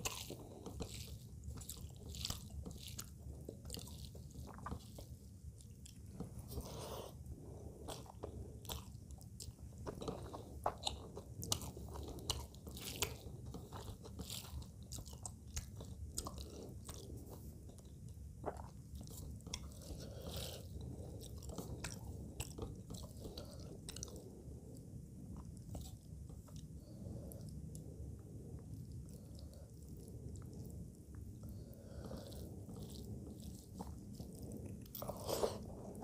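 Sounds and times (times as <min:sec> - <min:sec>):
close chewing: 0:00.0 - 0:36.0.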